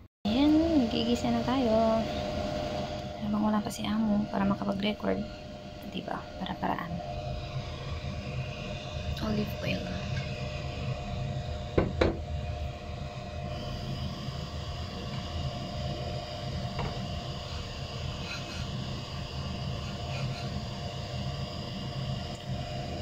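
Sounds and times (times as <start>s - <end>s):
faint steady whine: 0.3s - 23.0s
low mechanical hum: 0.3s - 23.0s.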